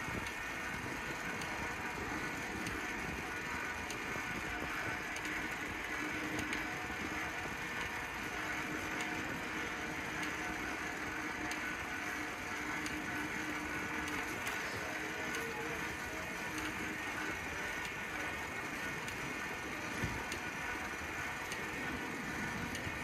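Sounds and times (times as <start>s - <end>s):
bike clicks and rattles: 0.0s - 23.0s.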